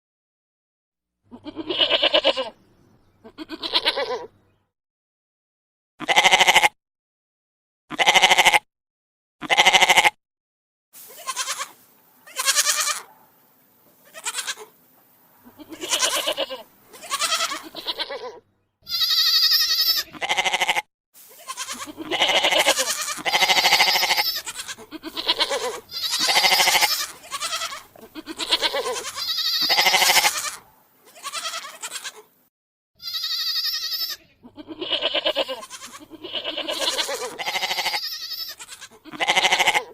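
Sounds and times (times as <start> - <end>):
goat bleats: 1.3 - 4.6, 6.0 - 6.8, 7.9 - 8.7, 9.4 - 10.2, 11.0 - 13.1, 14.0 - 14.8, 15.4 - 32.4, 33.0 - 39.9.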